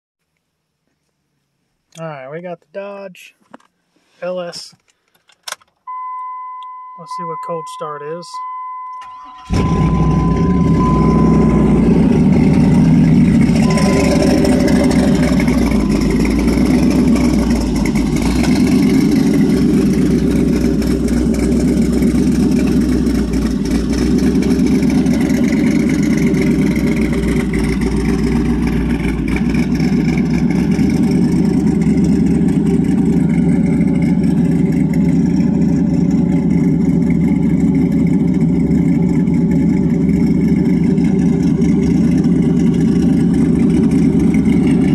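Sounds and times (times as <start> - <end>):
v eight engine idling: 6.7 - 44.9.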